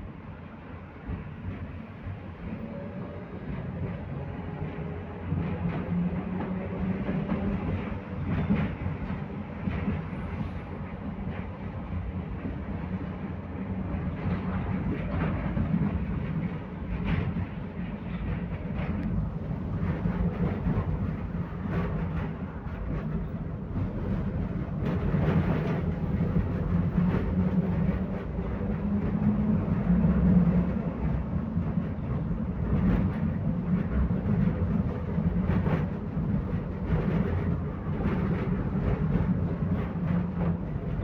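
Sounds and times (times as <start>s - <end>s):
tram wheels rumbling on rails: 0.0s - 41.0s.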